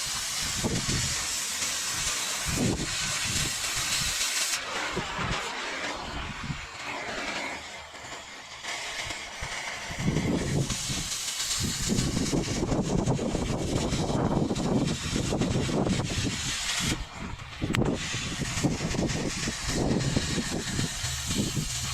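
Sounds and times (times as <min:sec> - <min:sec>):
cutting torch hissing on steel: 0:00.0 - 0:21.9.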